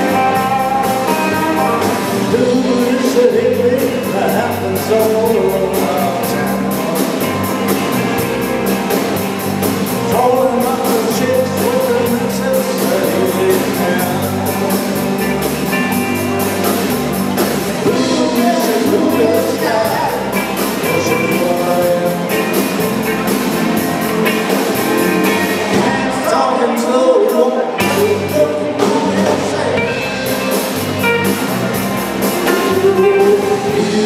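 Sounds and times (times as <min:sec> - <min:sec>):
person singing: 0:00.0 - 0:08.4, 0:09.9 - 0:16.1, 0:17.6 - 0:34.0
drum kit: 0:00.0 - 0:34.0
electric guitars: 0:00.0 - 0:34.0.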